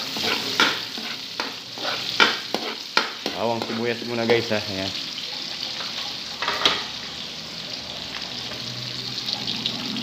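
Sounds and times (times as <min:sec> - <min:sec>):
garlic and onion sizzling in oil: 0:00.0 - 0:10.0.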